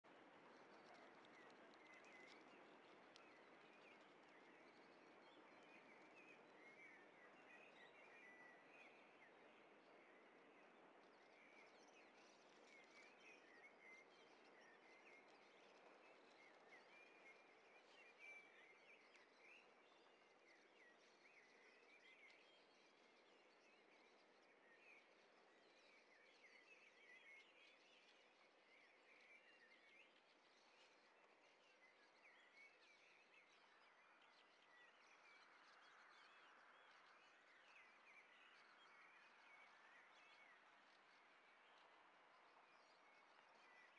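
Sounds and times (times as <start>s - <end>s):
faint bird chirps: 0.1s - 43.9s.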